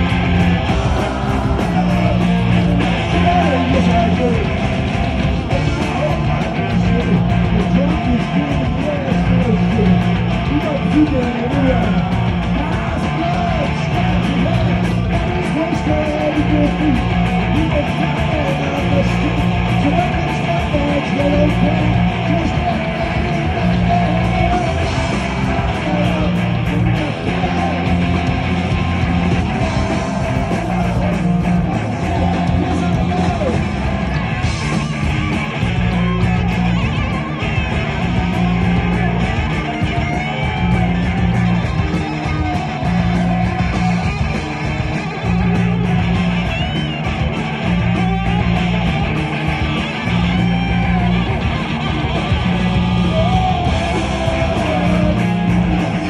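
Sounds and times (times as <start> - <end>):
bass guitar: 0.0 - 56.0
distorted electric guitars: 0.0 - 56.0
drums: 0.0 - 56.0.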